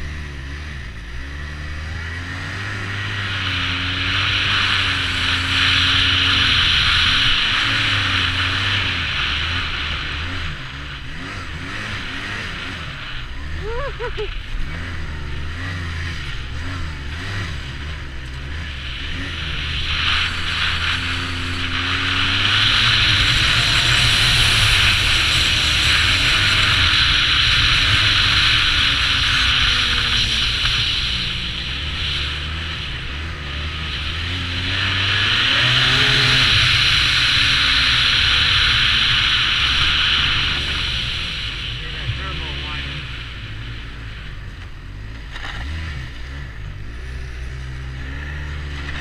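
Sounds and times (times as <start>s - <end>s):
snowmobile engine accelerating: 0.0s - 49.0s.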